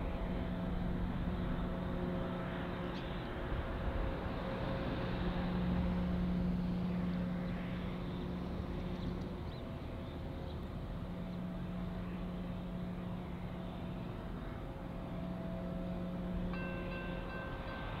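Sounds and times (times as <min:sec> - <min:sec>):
distant diesel locomotive drone: 0:00.0 - 0:18.0.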